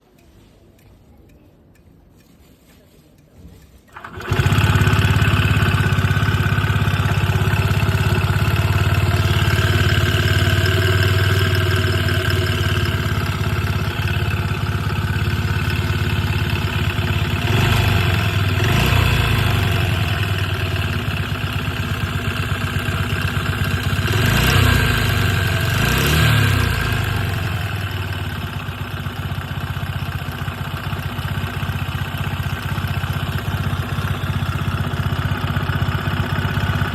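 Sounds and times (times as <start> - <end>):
scooter engine rattling: 3.9 - 36.9.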